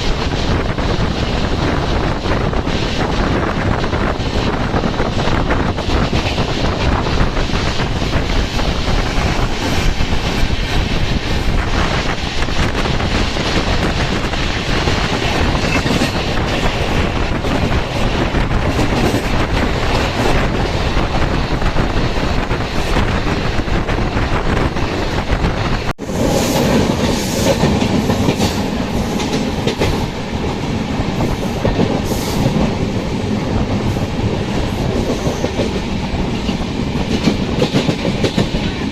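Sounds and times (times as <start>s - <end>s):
train rumbling and rattling: 0.0s - 38.9s.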